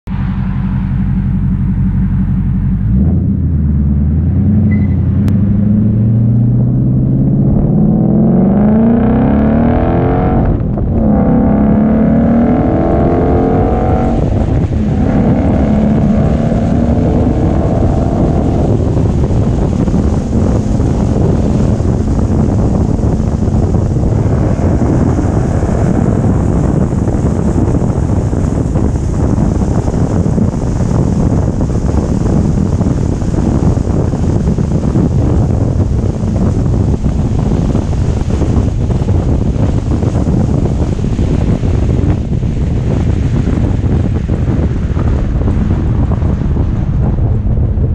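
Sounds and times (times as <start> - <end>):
car exhaust accelerating: 0.0 - 47.9
road noise: 0.0 - 47.9
wind noise: 0.1 - 47.9.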